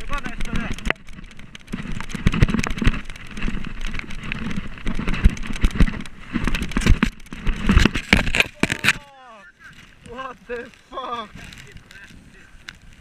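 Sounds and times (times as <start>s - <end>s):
bike chain and frame clattering: 0.0s - 13.0s
bike tyres rushing over dirt: 0.0s - 13.0s.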